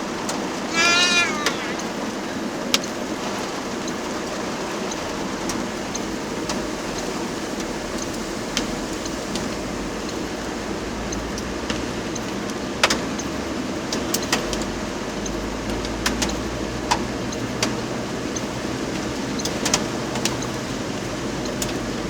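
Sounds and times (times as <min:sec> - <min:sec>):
raindrops ticking on car: 0:02.7 - 0:22.0.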